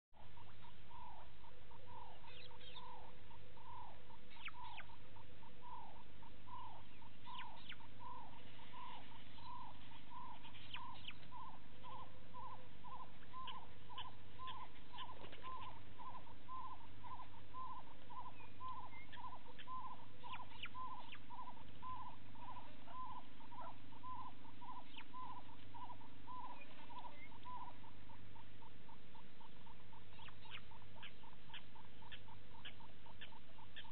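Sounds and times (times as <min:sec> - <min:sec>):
clinking bird calls: 0:00.2 - 0:33.9
low steady hum: 0:00.2 - 0:33.9.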